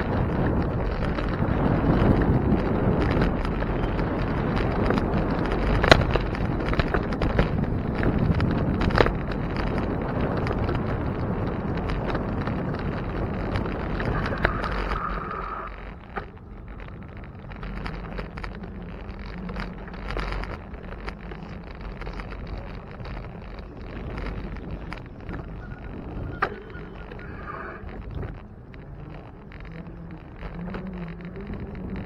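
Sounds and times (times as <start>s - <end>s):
bicycle rolling noise: 0.0s - 32.0s
wind buffeting microphone: 0.0s - 32.0s.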